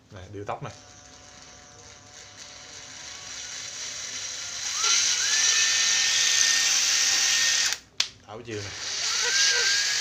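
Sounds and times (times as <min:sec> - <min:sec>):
impact wrench motor whining: 0:00.6 - 0:07.8, 0:08.7 - 0:10.0.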